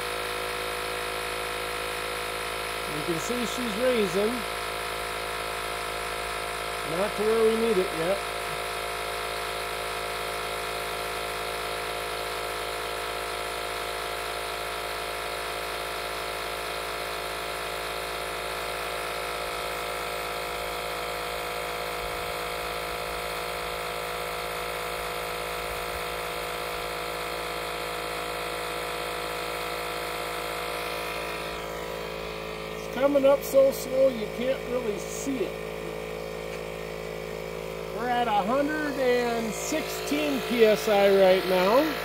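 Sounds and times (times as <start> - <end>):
air pump motor whine: 0.0 - 42.0.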